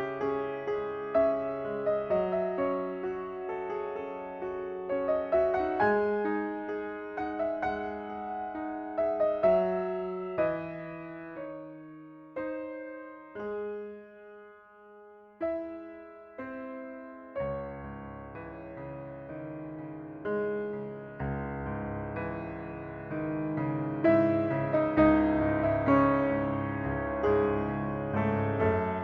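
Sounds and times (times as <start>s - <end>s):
gentle piano music: 0.0s - 29.0s.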